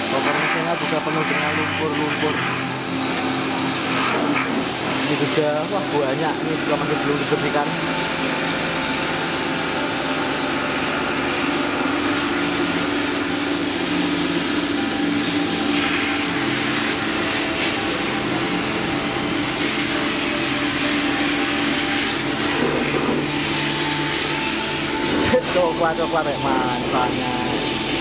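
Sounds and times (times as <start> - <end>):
pressure washer running: 0.0 - 28.0.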